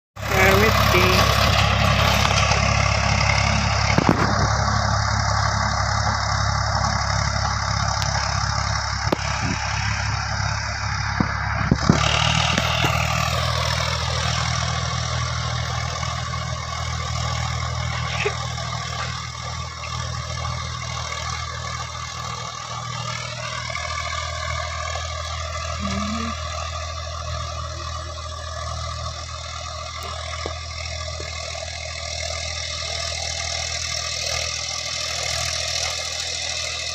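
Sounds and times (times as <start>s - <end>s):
old tractor engine running: 0.2s - 36.9s.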